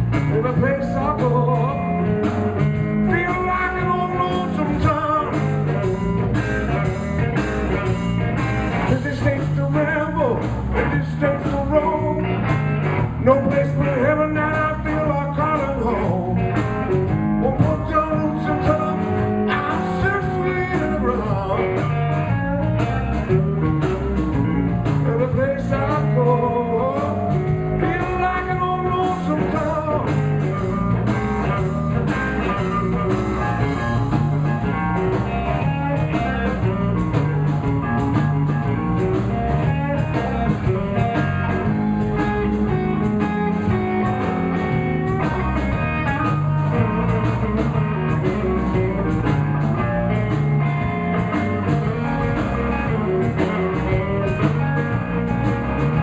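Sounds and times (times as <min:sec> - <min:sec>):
bass and drum beat: 0:00.0 - 0:56.0
lead guitar with bent notes: 0:00.0 - 0:56.0.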